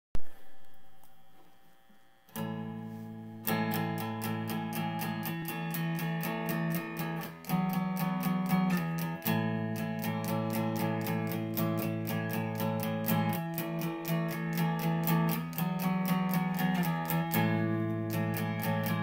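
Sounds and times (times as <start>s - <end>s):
strummed guitar: 0.2s - 19.0s.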